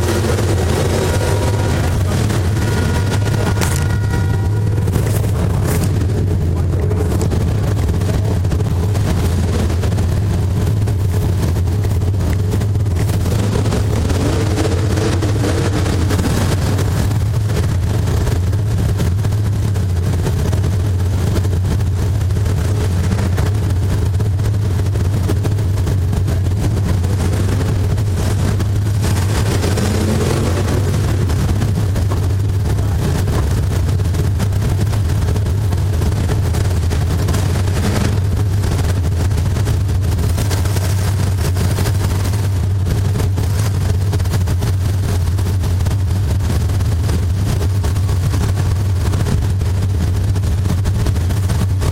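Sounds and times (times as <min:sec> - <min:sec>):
race car engine under load: 0:00.0 - 0:51.9.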